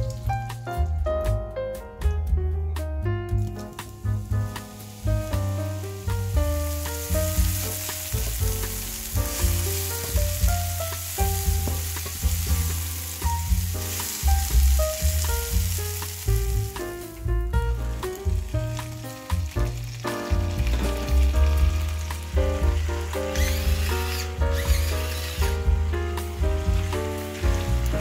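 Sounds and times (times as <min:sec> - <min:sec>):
mushrooms sizzling in a frying pan: 0:00.0 - 0:00.4, 0:03.4 - 0:28.0
background music with bass line: 0:00.0 - 0:28.0.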